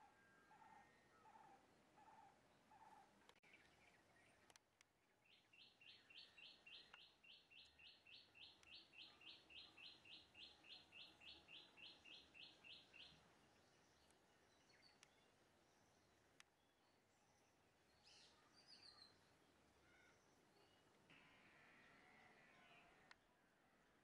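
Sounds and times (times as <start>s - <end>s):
bird chirping: 0.9s - 20.9s.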